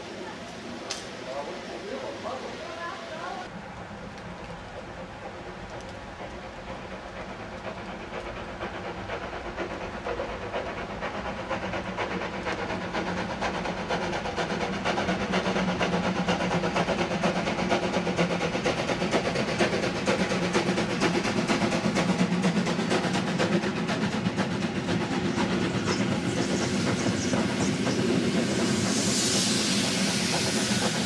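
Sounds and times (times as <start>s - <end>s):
steam locomotive exhaust: 0.0s - 31.0s
train running gear on rails: 0.0s - 31.0s.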